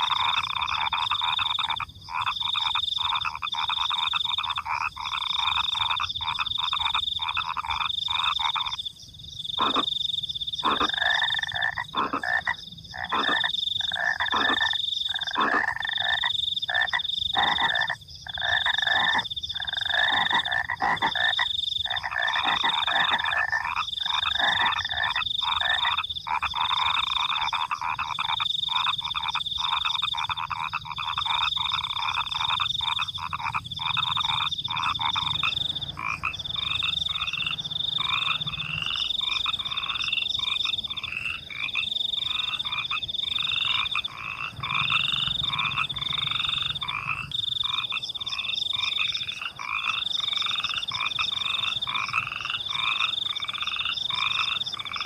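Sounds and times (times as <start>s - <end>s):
crickets chirping: 0.0s - 55.0s
frogs croaking: 0.0s - 55.0s.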